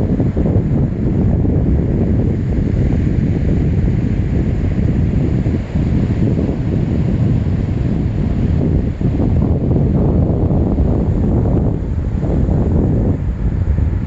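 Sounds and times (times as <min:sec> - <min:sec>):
faint sea surf: 0:00.0 - 0:14.0
wind buffeting microphone: 0:00.0 - 0:14.0.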